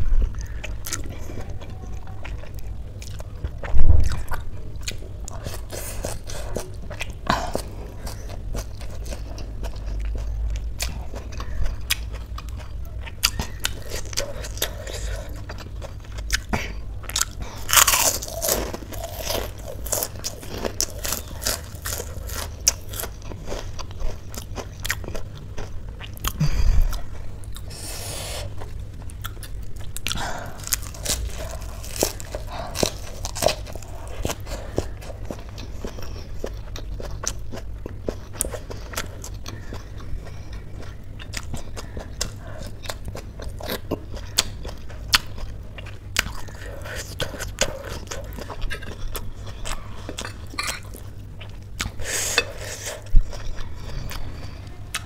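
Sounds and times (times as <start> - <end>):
chewing noodles mouth sounds: 0.3 - 55.0.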